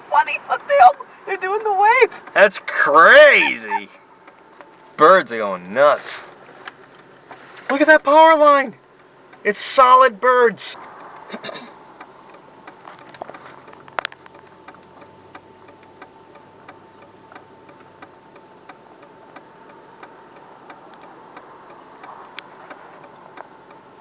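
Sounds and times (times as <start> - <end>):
steady ticking in car: 0.0 - 24.0.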